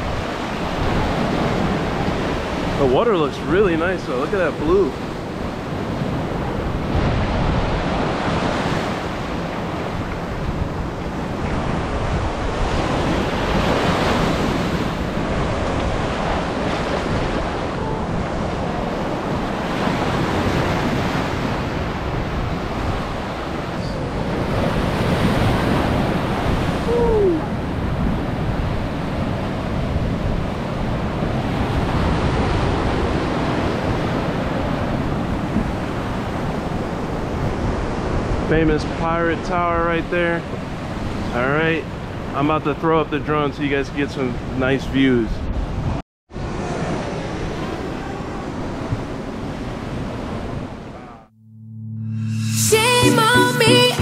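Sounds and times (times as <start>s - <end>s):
surf breaking on beach: 0.0s - 43.4s, 46.4s - 51.0s
wind rumbling on microphone: 0.0s - 51.3s.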